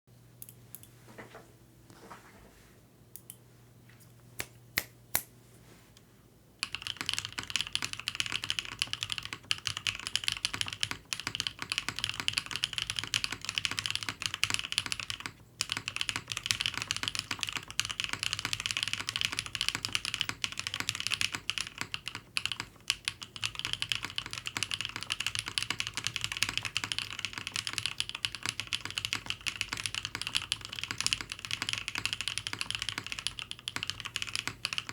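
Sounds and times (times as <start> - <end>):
mechanical keyboard typing: 6.6 - 34.9.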